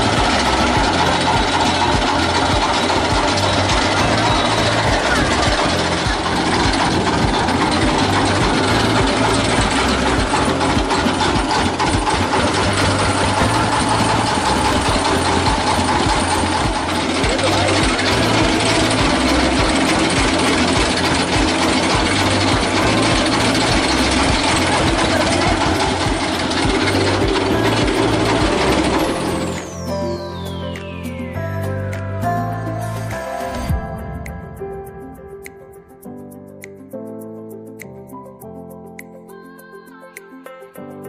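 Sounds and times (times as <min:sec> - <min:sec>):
stationary engine throbbing: 0:00.0 - 0:35.6.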